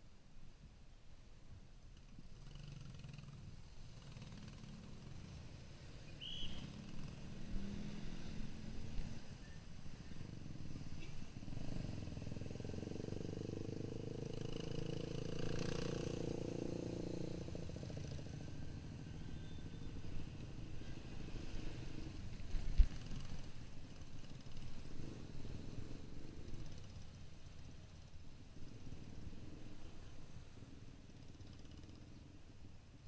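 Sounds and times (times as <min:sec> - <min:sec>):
motorcycle engine running: 0:02.0 - 0:33.0.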